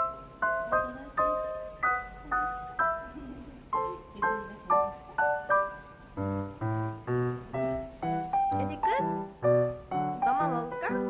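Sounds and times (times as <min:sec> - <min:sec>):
light piano melody: 0:00.0 - 0:11.0.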